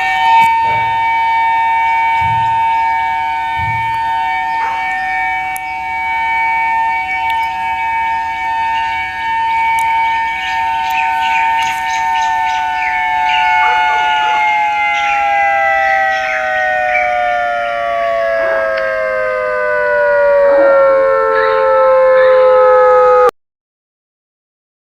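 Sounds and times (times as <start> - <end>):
two-tone emergency siren: 0.0 - 23.4.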